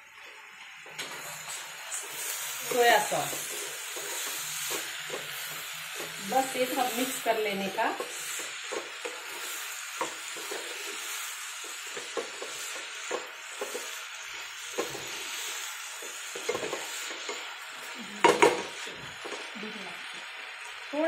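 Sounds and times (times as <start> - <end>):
light sizzle: 0.0 - 21.0
spatula stirring vegetables in pan: 0.0 - 21.0.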